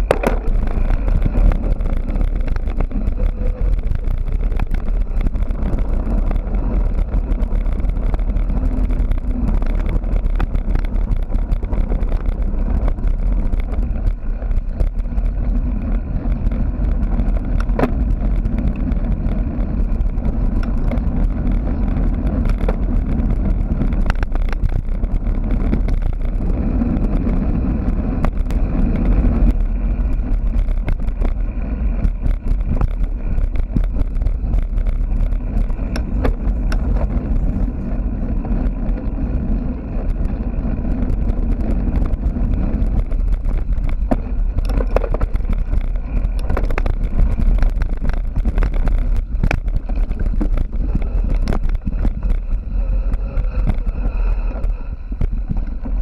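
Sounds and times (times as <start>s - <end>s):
bike clicking and rattling: 0.0s - 56.0s
wind rumble on microphone: 0.0s - 56.0s.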